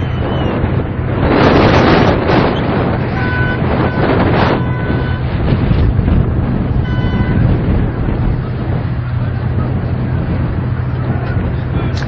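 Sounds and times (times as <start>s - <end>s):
vehicle engine running: 0.0s - 12.0s
wind noise on microphone: 0.0s - 12.0s.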